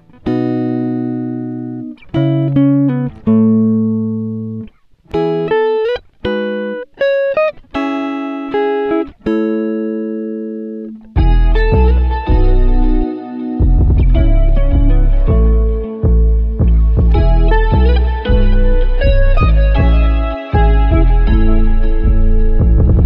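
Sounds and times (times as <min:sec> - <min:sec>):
plucked guitar music: 0:00.0 - 0:23.0.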